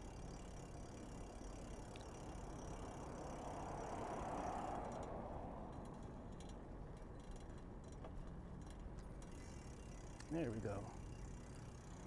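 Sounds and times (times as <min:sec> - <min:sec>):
bicycle riding noise on road: 0:00.0 - 0:12.0
freewheel ratchet ticking: 0:00.0 - 0:12.0.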